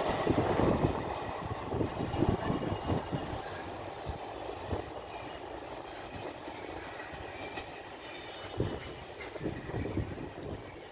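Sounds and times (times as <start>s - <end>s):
train wheels rumbling on rail: 0.0s - 10.9s.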